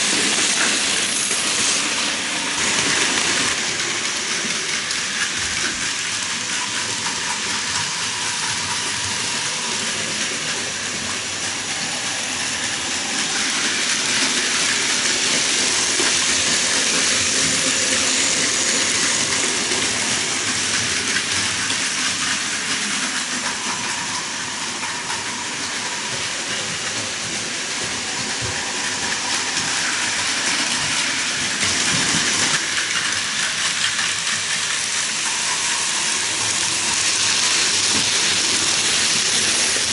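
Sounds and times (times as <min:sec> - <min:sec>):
model trains running: 0:00.0 - 0:39.9.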